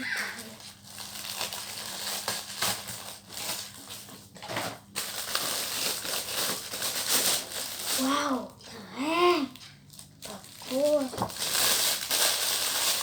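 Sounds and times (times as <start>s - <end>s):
plastic packaging crinkling: 0.0s - 8.5s, 9.9s - 13.0s.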